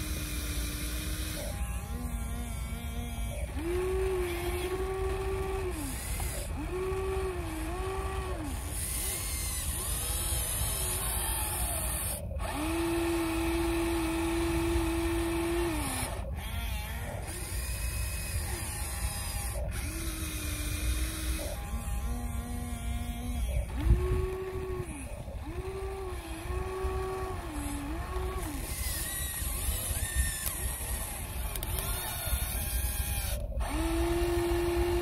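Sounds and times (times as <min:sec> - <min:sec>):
toy excavator motors whining: 0:00.0 - 0:35.0.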